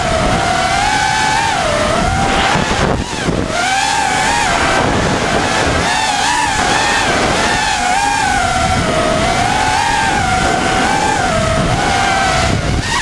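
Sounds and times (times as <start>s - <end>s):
quadcopter motors whining: 0.0s - 13.0s
wind noise: 0.0s - 13.0s.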